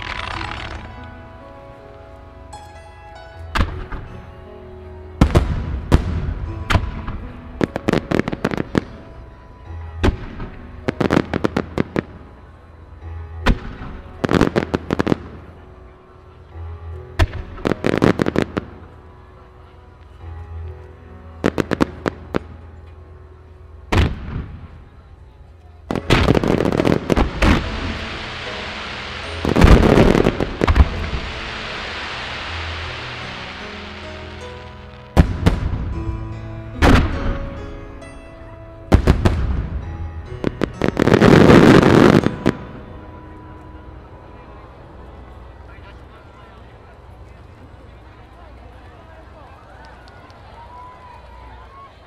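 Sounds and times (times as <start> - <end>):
background music: 0.0 - 49.8.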